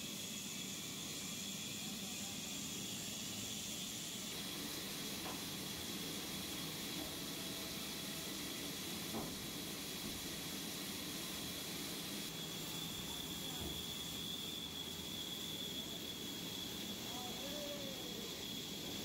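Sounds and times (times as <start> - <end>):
sawmill high whine: 0.0 - 19.0.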